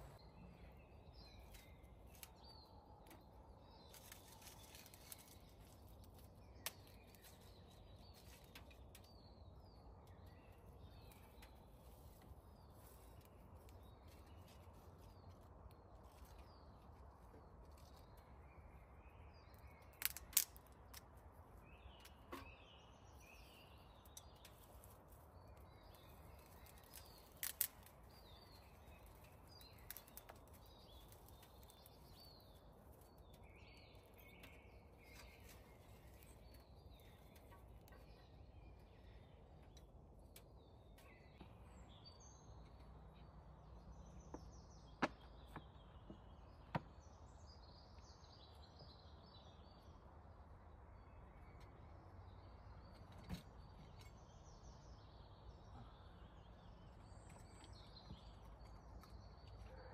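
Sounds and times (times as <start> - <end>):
faint birds chirping: 0.0 - 59.9.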